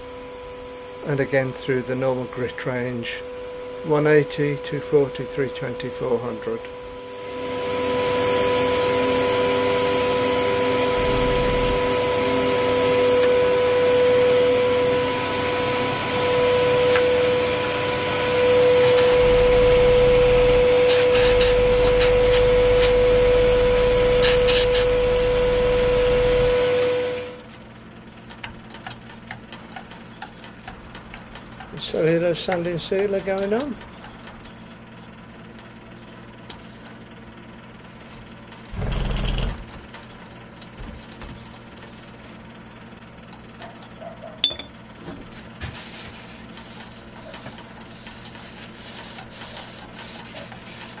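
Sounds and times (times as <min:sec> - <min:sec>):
workshop machine whining: 0:00.0 - 0:51.0.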